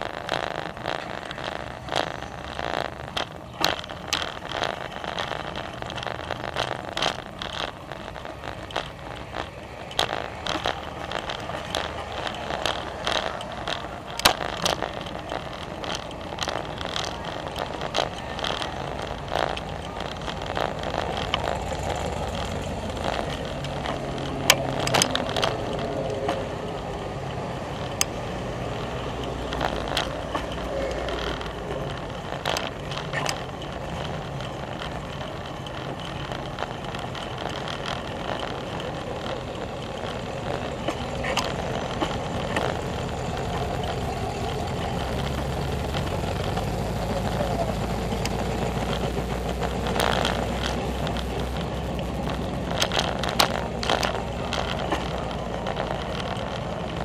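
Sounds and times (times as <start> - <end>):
bicycle rattles and clicks: 0.0 - 57.0
low steady hum: 0.0 - 57.0
tyre noise: 0.0 - 57.0
wind noise: 0.0 - 57.0.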